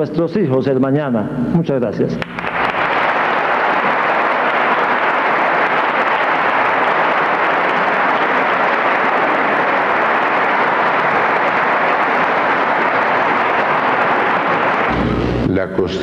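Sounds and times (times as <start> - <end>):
large audience applauding: 2.2 - 15.5.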